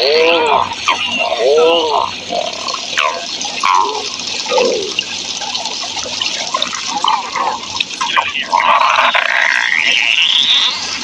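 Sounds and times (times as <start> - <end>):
rushing water with gurgles: 0.0 - 11.0.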